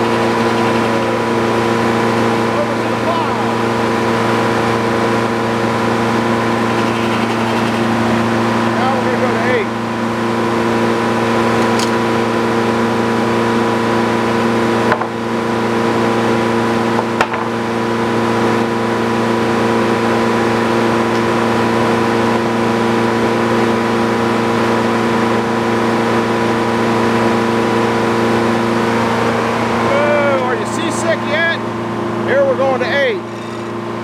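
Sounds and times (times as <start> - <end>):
sawmill engine running: 0.0 - 34.0.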